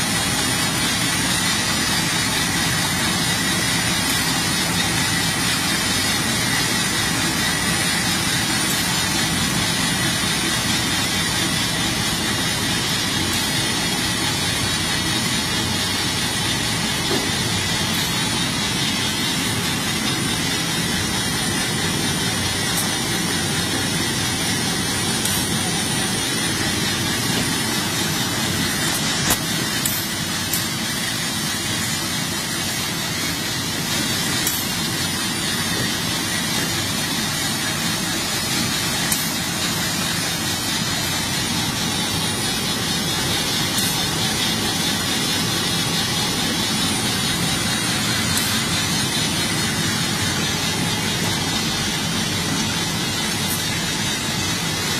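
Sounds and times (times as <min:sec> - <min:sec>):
machine running with high whine: 0:00.0 - 0:54.9.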